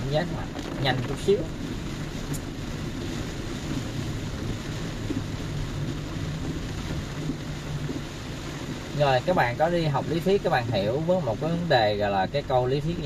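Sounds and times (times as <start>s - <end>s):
low engine hum: 0.0s - 13.0s
rain hissing: 0.0s - 13.0s
wet tyres on road: 0.0s - 13.0s.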